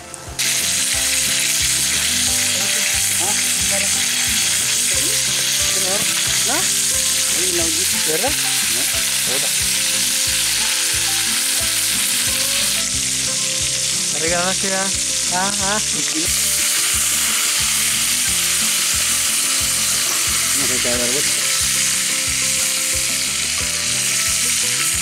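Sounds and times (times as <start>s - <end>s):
oil sizzling in a frying pan: 0.0s - 25.0s.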